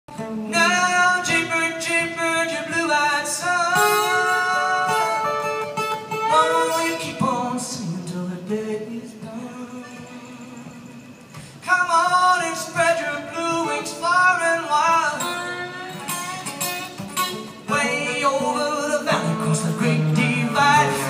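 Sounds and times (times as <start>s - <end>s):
acoustic guitar playing: 0.1s - 21.0s.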